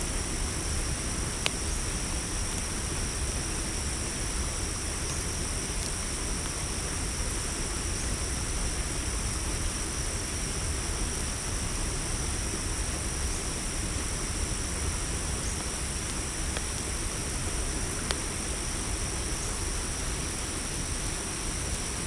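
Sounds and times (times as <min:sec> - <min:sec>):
crickets trilling: 0:00.0 - 0:22.0
faint campfire crackles: 0:00.0 - 0:22.0.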